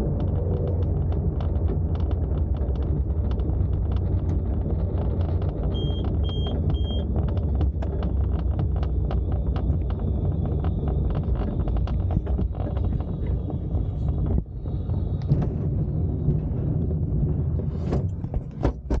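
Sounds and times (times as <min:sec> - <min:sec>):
wheel rolling on tarmac: 0:00.0 - 0:19.0.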